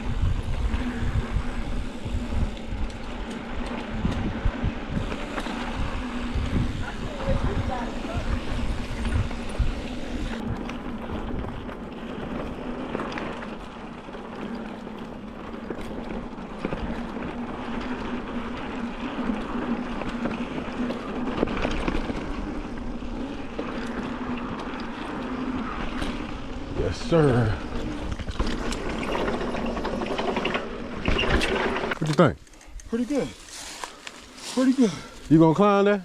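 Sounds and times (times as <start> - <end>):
wind buffeting microphone: 0.0 - 31.5
bike rattles and knocks: 0.0 - 35.0
bike tyre noise on dirt: 0.0 - 36.0.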